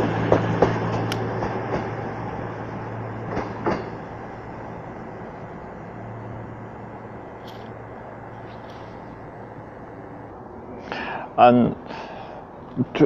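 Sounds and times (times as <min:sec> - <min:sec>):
diesel train engine hum: 0:00.0 - 0:13.0
train noise: 0:00.0 - 0:13.0.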